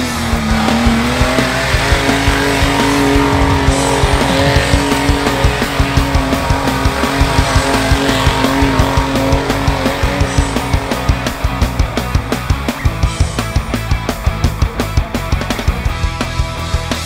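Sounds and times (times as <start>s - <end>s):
background music with steady beat: 0.0s - 17.0s
car engine revving: 0.0s - 17.0s.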